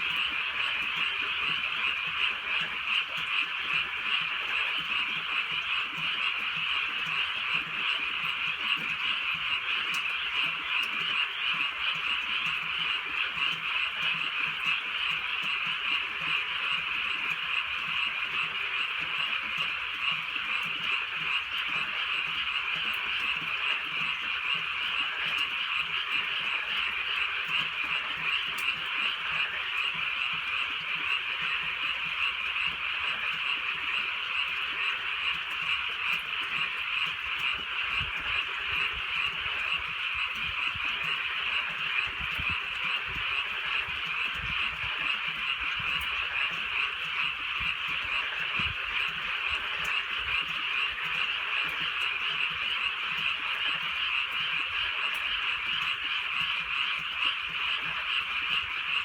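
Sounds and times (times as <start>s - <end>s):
chorus of frogs croaking: 0.0s - 59.0s.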